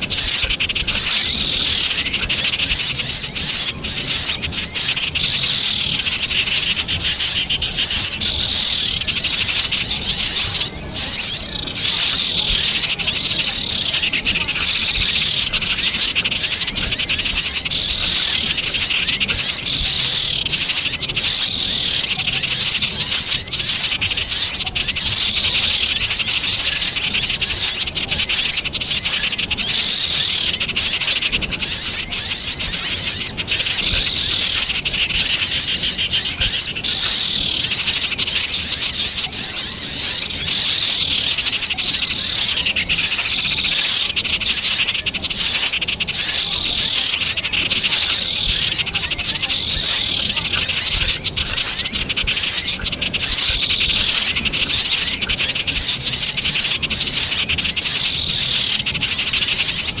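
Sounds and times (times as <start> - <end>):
bird rattling calls: 0.0 - 60.0
sunbird chirps: 0.0 - 60.0.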